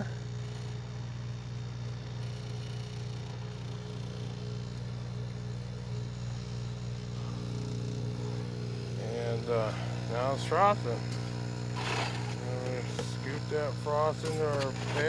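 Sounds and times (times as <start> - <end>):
motor and air pump humming: 0.0 - 15.0.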